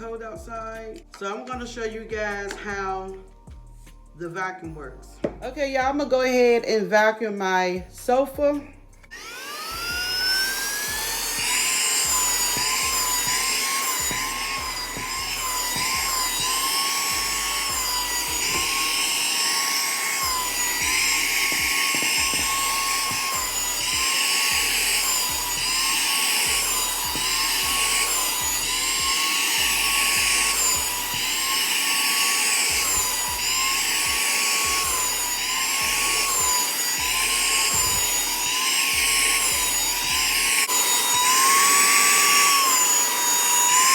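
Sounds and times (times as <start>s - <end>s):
handheld vacuum whining: 0.0s - 3.7s, 4.3s - 43.9s.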